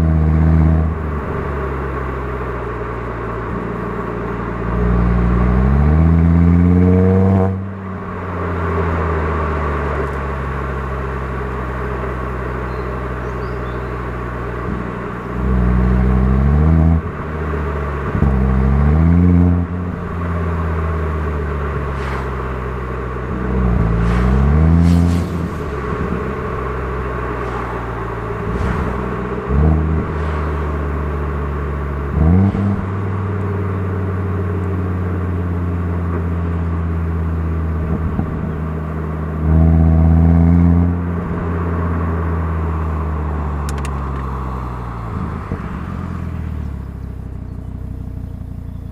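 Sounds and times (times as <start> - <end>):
car engine accelerating: 0.0 - 48.9
engine revving blips: 4.6 - 35.4, 39.4 - 43.0, 43.6 - 48.9.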